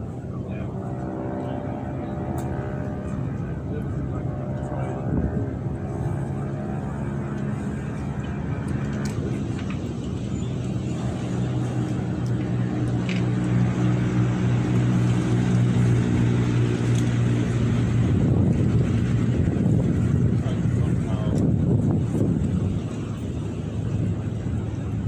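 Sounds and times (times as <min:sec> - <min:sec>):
steady low hum: 0:00.0 - 0:25.0
storm wind blowing hard: 0:04.8 - 0:25.0.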